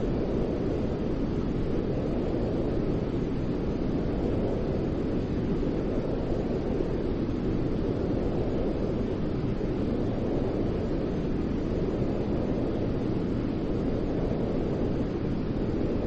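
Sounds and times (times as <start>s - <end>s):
low rushing white noise: 0.0s - 16.0s.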